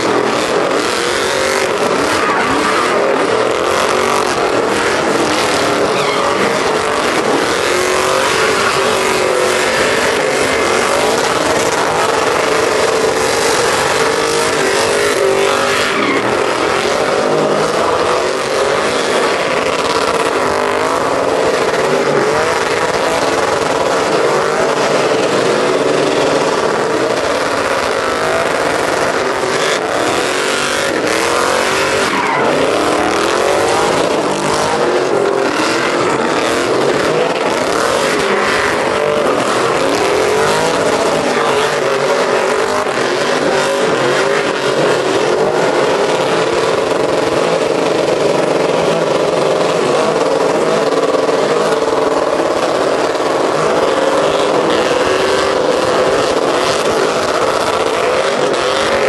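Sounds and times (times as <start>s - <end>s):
tires squealing on pavement: 0.0s - 59.0s
truck engine revving high: 0.0s - 59.0s.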